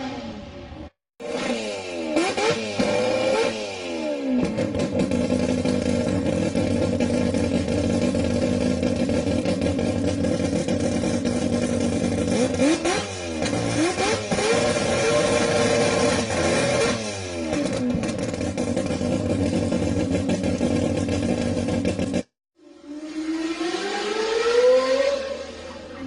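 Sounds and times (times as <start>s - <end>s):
rotary engine revving and idling: 0.0s - 26.0s.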